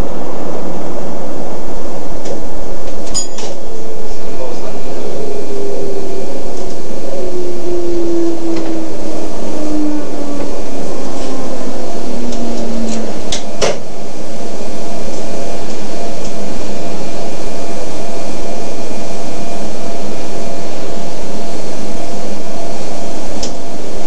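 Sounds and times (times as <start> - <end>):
train running in tunnel: 0.0 - 24.0.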